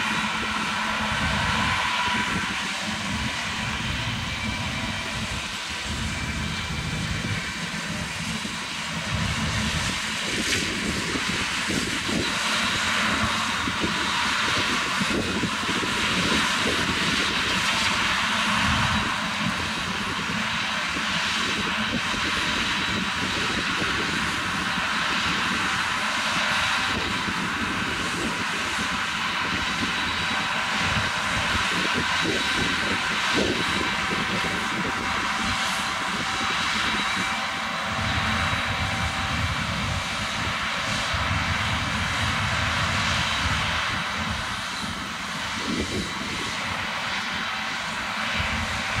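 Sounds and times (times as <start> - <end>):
combine harvester machinery drone: 0.0 - 49.0.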